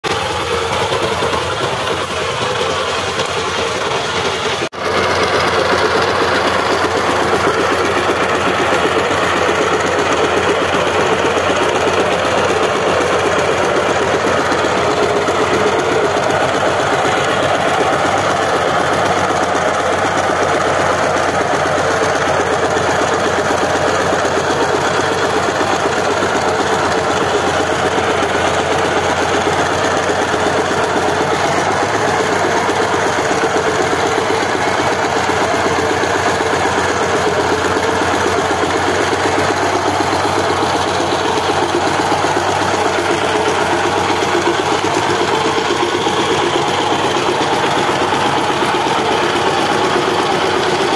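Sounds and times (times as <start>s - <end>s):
diesel engine knocking: 0.0s - 50.9s.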